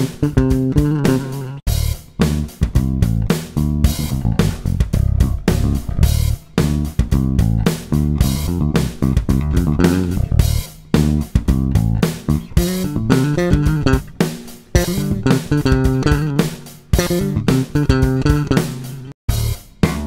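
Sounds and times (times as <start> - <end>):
electric bass playing: 0.0 - 20.0.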